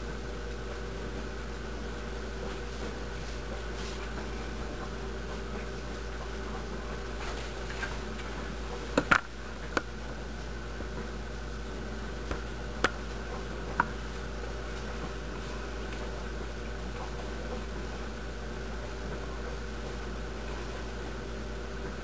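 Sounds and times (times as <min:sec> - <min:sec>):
low hum and hiss: 0:00.0 - 0:22.0.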